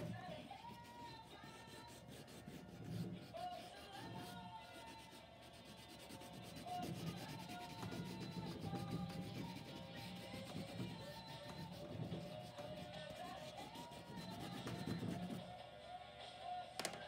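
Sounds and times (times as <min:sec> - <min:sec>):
crayon scratching on paper: 0:00.0 - 0:15.4
fingertips rubbing paper: 0:00.0 - 0:15.4
faint music: 0:00.0 - 0:17.0.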